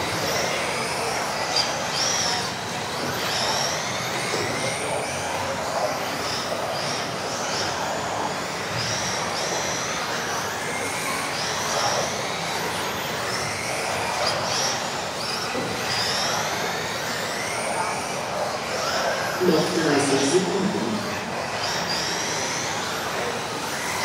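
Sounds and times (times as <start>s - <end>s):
rc car motors whining: 0.0s - 24.0s.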